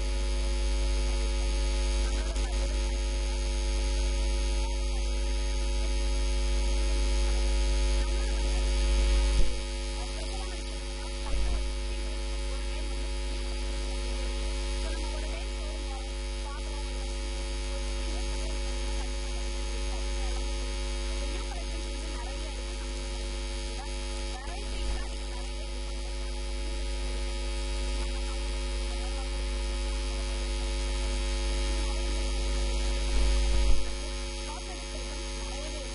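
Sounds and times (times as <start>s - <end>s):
electrical mains hum: 0.0s - 35.9s.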